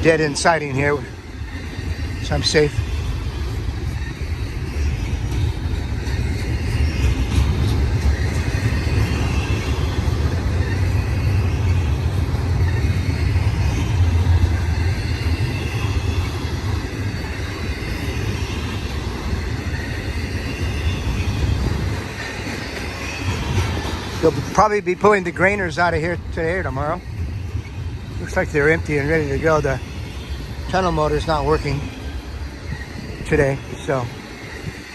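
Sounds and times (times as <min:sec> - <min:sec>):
freight train cars rumbling: 0:00.0 - 0:34.9.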